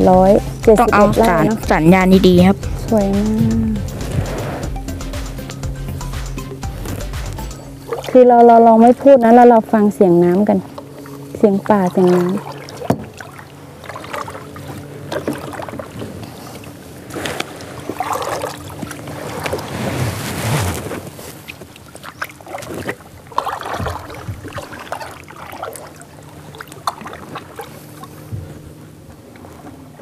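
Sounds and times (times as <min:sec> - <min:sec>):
kayak paddles splashing: 0:05.5 - 0:30.0.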